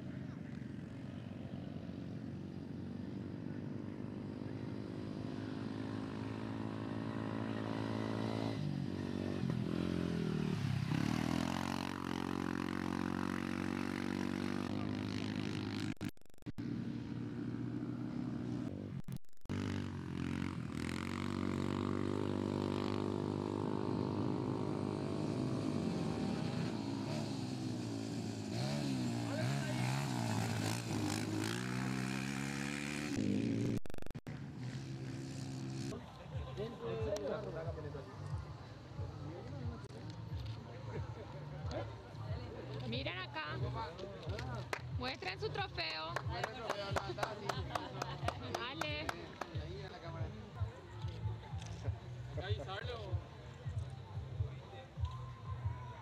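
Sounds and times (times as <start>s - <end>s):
quad engines racing: 0.0s - 55.4s.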